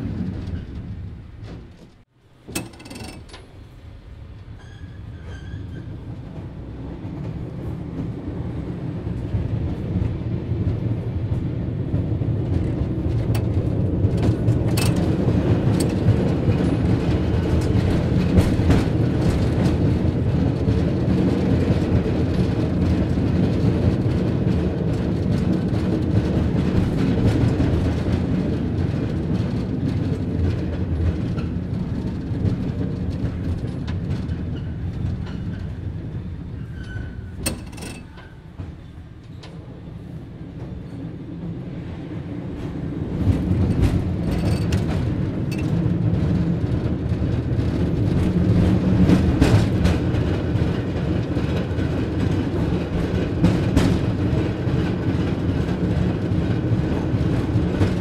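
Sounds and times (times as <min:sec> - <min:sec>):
cable car mechanical rumble: 0:00.0 - 0:58.0.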